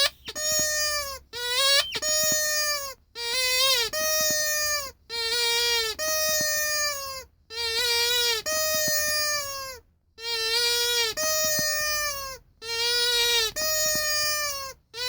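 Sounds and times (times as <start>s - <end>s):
rubber squeaky toy squeaking: 0.0s - 15.0s.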